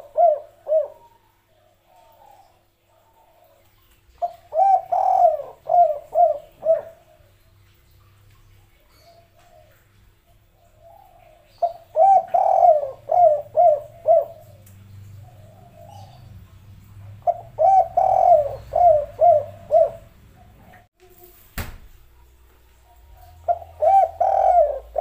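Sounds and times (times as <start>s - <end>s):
dove cooing: 0.0s - 7.4s, 8.9s - 20.9s, 22.8s - 25.0s.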